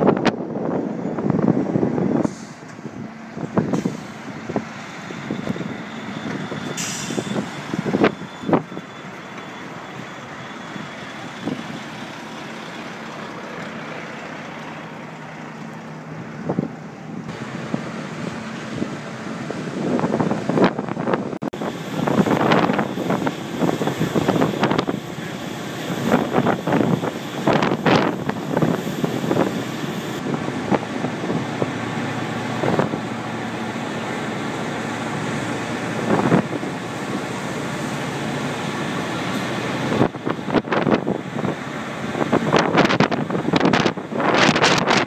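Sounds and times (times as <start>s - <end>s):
wind buffeting microphone: 0.0s - 8.9s, 16.3s - 37.9s, 38.8s - 45.0s
lorry diesel engine running: 0.0s - 45.0s.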